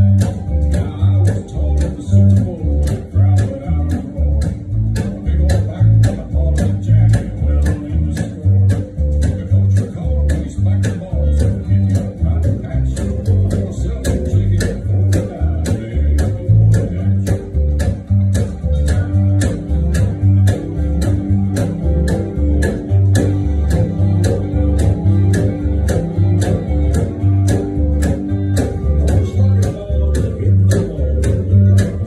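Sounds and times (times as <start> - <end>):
guitar: 0.0 - 32.0
plucked upright bass: 0.0 - 32.0
sharp beat clicks: 0.0 - 32.0.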